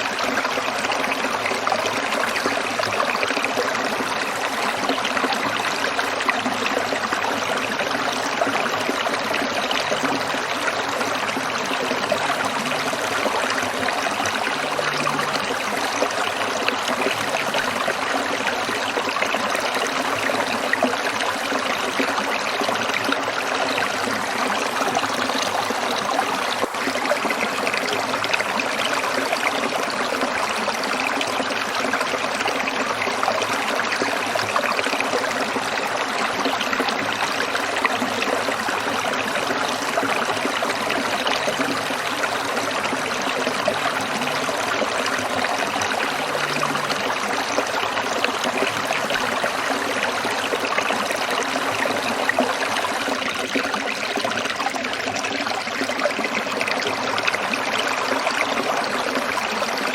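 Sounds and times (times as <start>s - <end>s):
stream water trickling over rocks: 0.0s - 59.9s.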